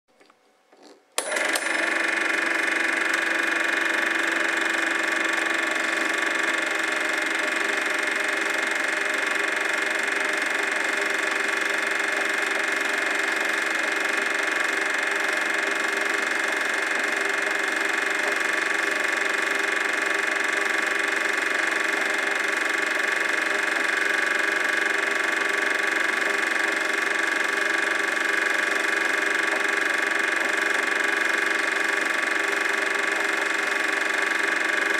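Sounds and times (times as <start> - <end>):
film projector whirring: 1.2 - 34.9.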